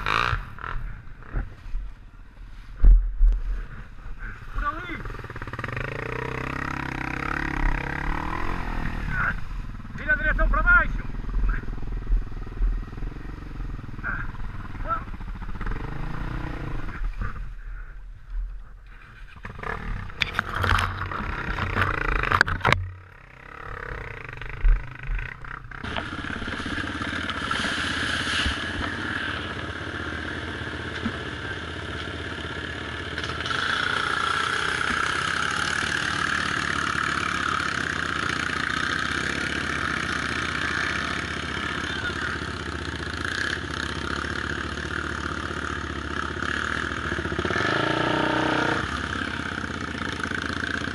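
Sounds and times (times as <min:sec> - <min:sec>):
off-road motorcycle engines running: 0:00.0 - 0:50.9.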